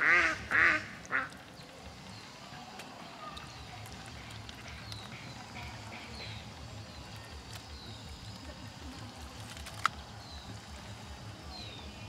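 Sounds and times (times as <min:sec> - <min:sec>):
distant engine throbbing: 0:00.0 - 0:12.0.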